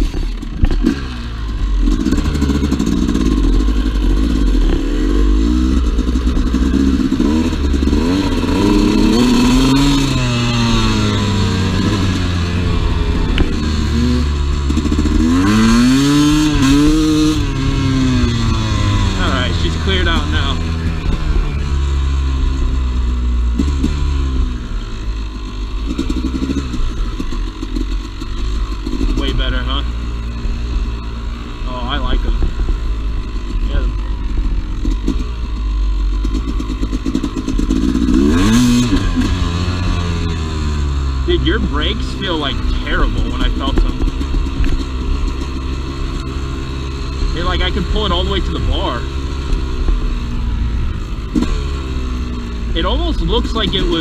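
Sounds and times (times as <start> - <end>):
two-stroke dirt bike engine revving: 0.0 - 54.0.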